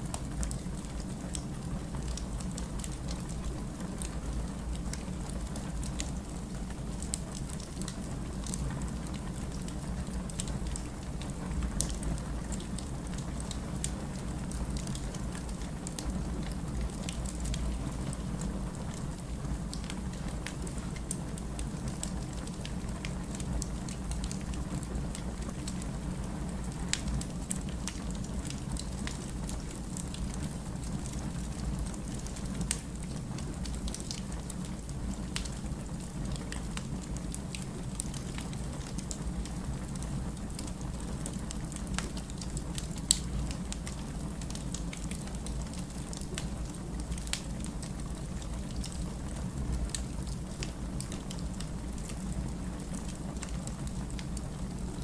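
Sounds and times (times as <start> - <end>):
fire low rumble: 0.0 - 55.0
firewood crackling and popping: 0.0 - 55.0.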